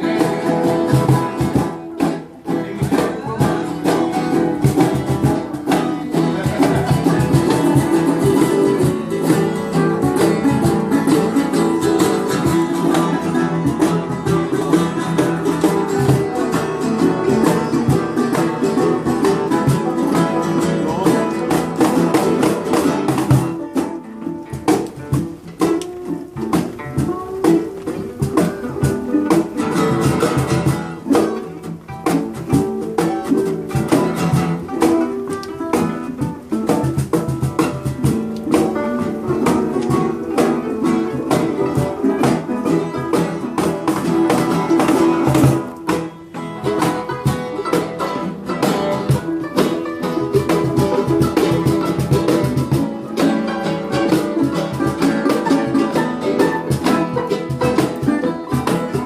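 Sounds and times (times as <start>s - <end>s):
guitar strummed and plucked: 0.0s - 59.0s.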